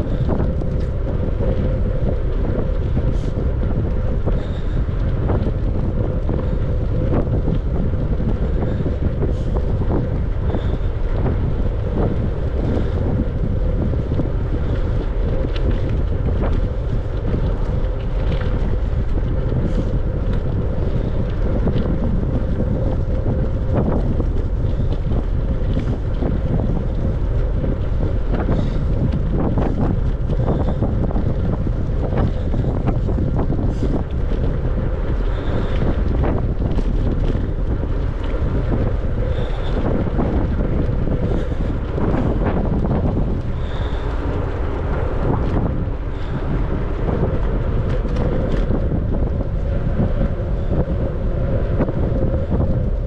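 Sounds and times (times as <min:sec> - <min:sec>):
faint ticks and rattles: 0:00.0 - 0:53.0
wind buffeting microphone: 0:00.0 - 0:53.0.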